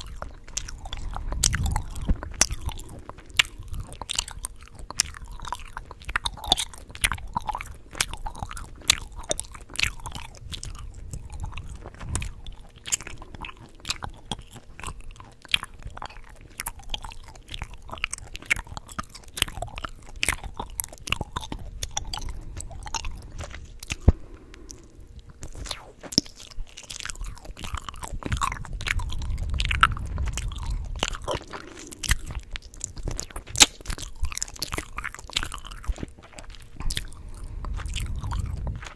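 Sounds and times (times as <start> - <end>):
gum chewing smacks and clicks: 0.0 - 38.9.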